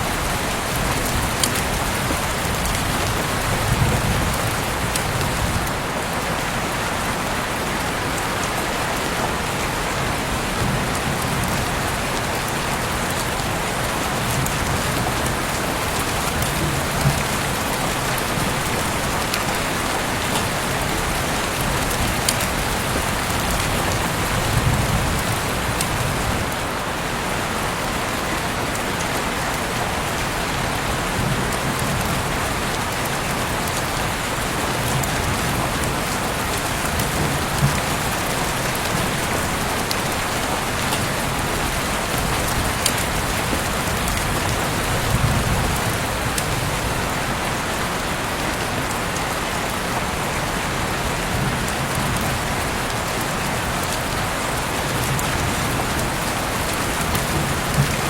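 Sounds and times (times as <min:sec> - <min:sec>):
close raindrops striking: 0:00.0 - 0:58.0
heavy rain falling: 0:00.0 - 0:58.0.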